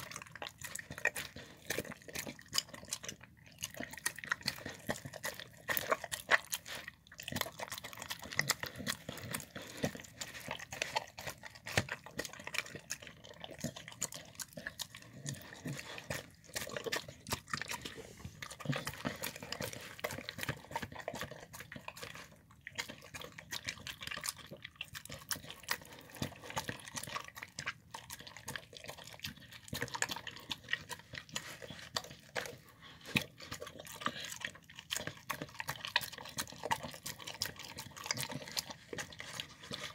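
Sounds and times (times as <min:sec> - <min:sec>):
dog chewing and lapping food: 0:00.0 - 0:39.9.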